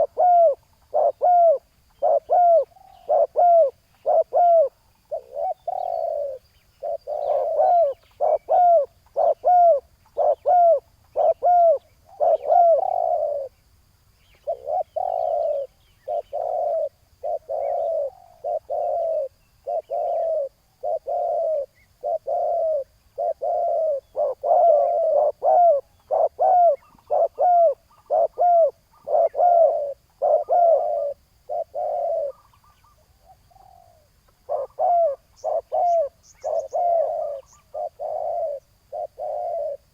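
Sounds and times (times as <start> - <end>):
doves cooing: 0.0 - 13.6, 14.3 - 39.9.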